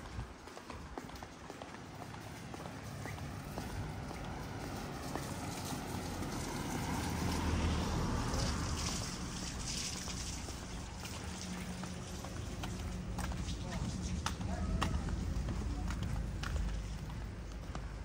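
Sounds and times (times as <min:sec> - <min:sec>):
street rushing noise: 0:00.0 - 0:18.0.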